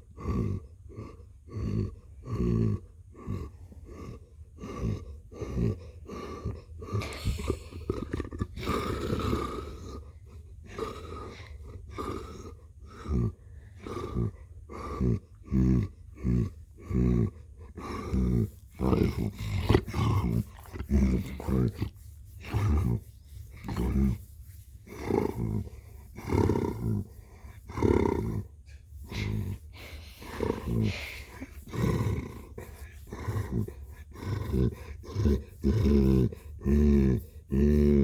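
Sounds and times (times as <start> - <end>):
pet purring: 0.2 - 38.0.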